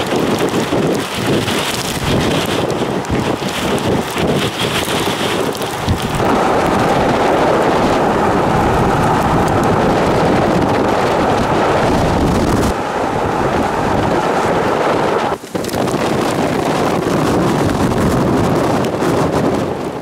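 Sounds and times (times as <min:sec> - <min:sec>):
rain: 0:00.0 - 0:20.0
wind: 0:00.0 - 0:20.0.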